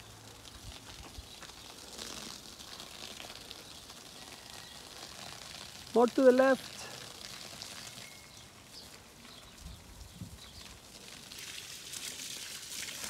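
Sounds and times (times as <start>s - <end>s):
hose water splashing onto soil: 0.0s - 13.0s.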